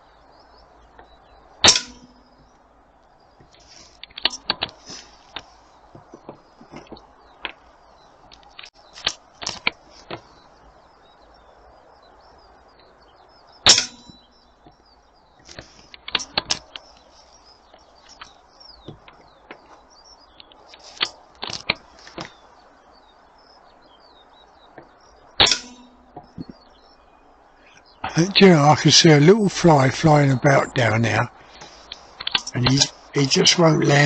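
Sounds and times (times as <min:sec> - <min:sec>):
birds chirping faintly: 0:00.0 - 0:34.0.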